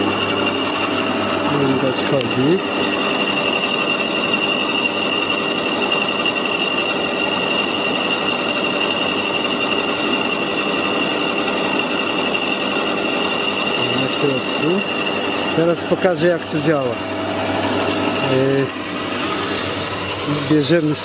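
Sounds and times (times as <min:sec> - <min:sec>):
shredder motor hum with high whine: 0:00.0 - 0:21.0.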